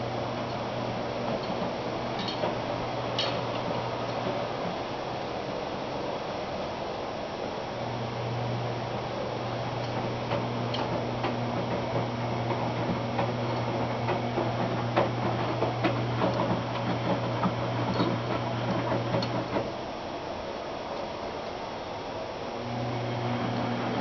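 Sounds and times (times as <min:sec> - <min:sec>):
washing machine motor hum: 0:00.0 - 0:20.1, 0:22.3 - 0:24.0.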